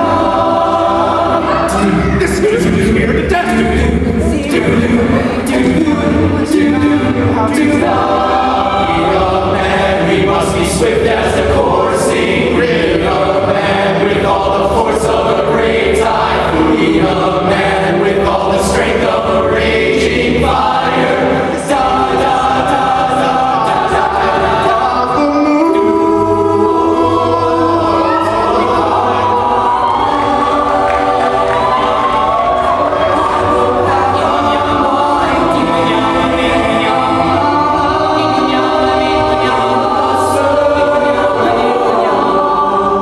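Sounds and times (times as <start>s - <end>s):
a cappella group singing in harmony: 0.0s - 43.0s.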